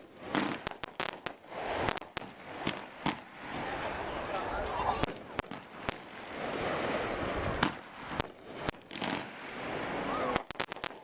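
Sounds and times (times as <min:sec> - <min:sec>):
fireworks bangs: 0:00.0 - 0:11.0
fireworks hiss and crackle: 0:00.0 - 0:11.0.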